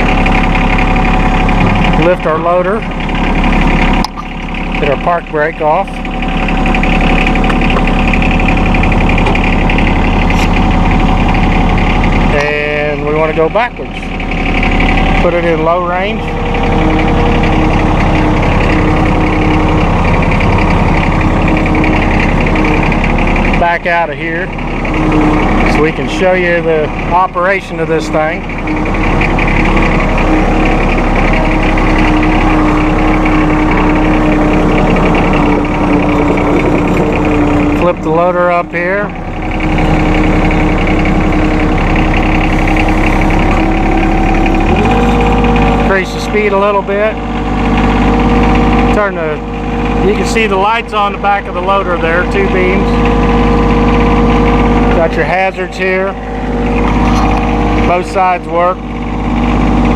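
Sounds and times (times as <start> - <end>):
diesel tractor engine running: 0.0 - 59.9
steady whine: 0.0 - 59.9.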